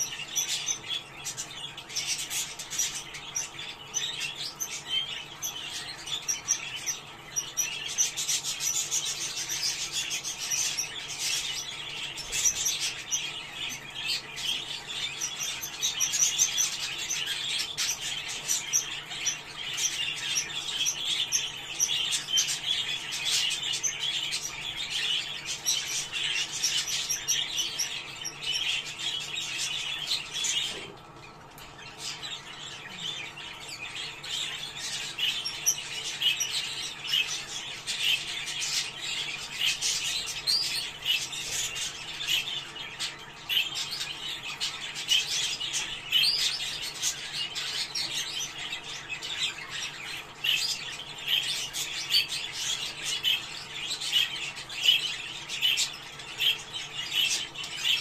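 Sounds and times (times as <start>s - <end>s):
budgerigars chattering and warbling: 0.0s - 58.0s.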